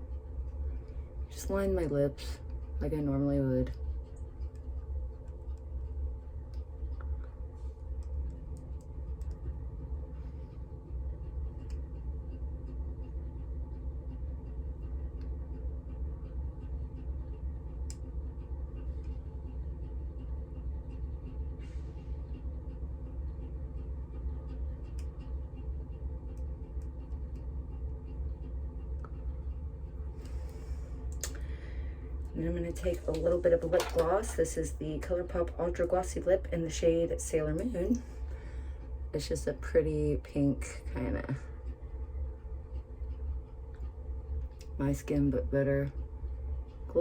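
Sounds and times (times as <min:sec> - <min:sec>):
low hum and rumble: 0:00.0 - 0:47.0.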